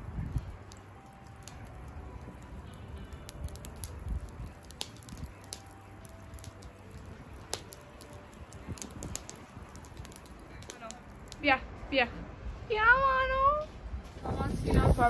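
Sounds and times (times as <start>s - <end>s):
charcoal crackling and popping: 0.0s - 11.6s, 14.2s - 15.0s
wind rumble on microphone: 0.0s - 15.0s.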